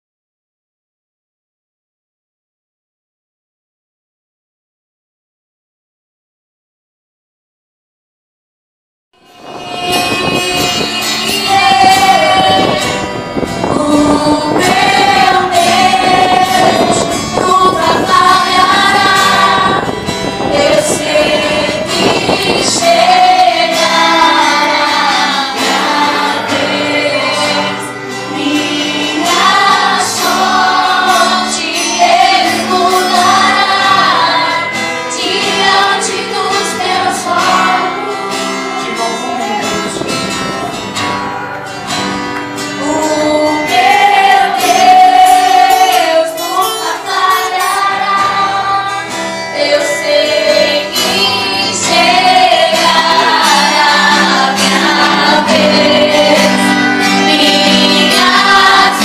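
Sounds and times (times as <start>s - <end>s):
voices singing together: 9.2s - 41.1s, 42.5s - 59.0s
instrumental accompaniment: 9.2s - 59.0s.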